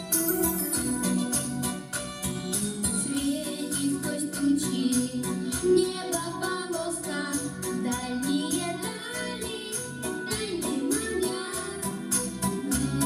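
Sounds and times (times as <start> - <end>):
backing music with steady beat: 0.0 - 13.0
children singing into microphones: 2.4 - 13.0.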